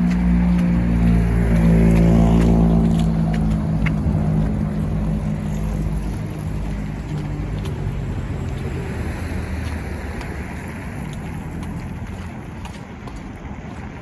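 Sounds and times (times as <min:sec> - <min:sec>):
motor engine droning: 0:00.0 - 0:14.0.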